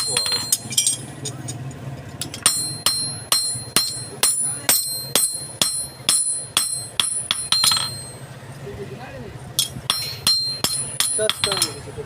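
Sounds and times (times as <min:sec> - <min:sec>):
hammer striking steel: 0:00.0 - 0:01.4, 0:02.2 - 0:08.2, 0:09.6 - 0:11.9.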